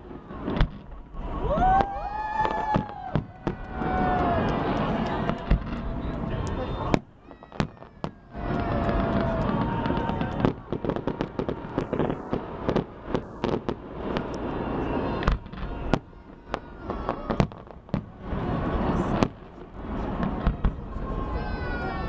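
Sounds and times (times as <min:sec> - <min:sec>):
crowd voices: 0:00.0 - 0:22.0
fireworks bangs and crackles: 0:00.0 - 0:22.0.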